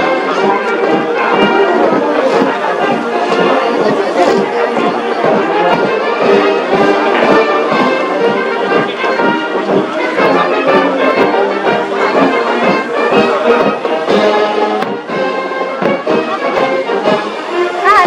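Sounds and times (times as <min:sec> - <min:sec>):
military brass band playing: 0:00.0 - 0:18.0
trombones: 0:00.0 - 0:18.0
drum beat: 0:00.1 - 0:18.0.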